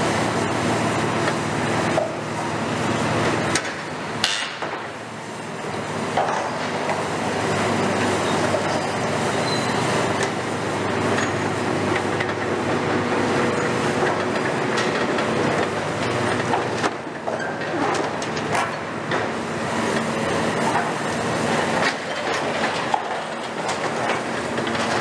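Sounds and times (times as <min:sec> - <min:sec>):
excavator running under load: 0:00.0 - 0:25.0.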